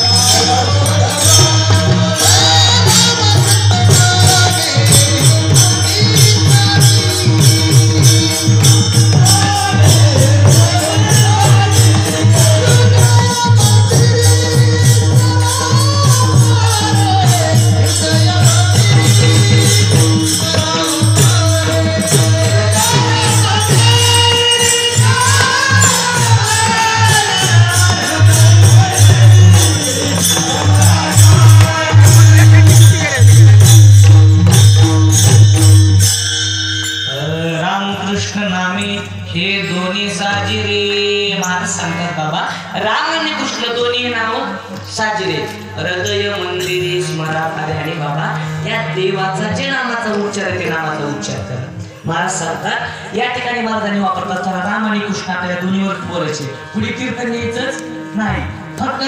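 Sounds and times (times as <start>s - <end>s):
man singing devotional tune: 0.0s - 36.0s, 37.1s - 59.0s
jingling metallic percussion: 0.0s - 59.0s.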